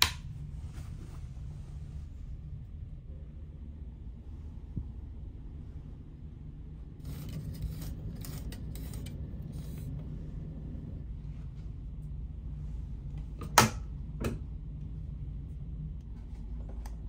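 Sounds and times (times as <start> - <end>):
engine and ventilation hum: 0.0 - 17.0.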